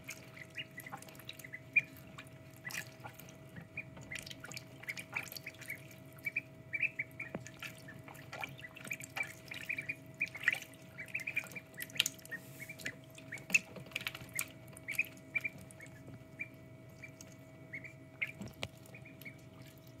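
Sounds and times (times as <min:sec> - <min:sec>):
ducklings peeping: 0:00.0 - 0:20.0
small water splashes and drips: 0:00.0 - 0:20.0.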